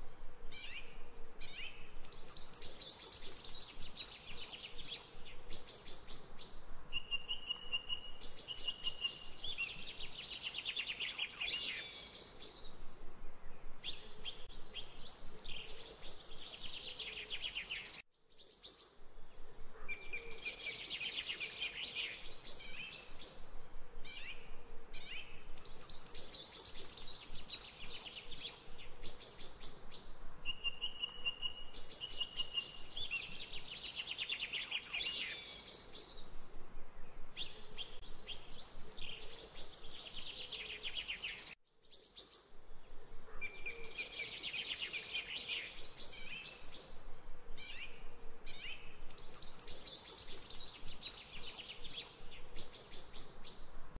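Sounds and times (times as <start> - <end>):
songbirds singing: 0.0 - 53.8.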